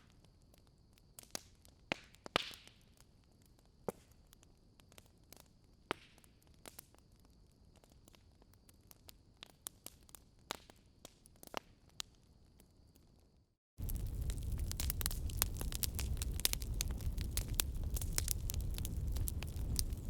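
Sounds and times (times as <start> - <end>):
wood fire crackling: 0.4 - 12.2, 13.8 - 20.0.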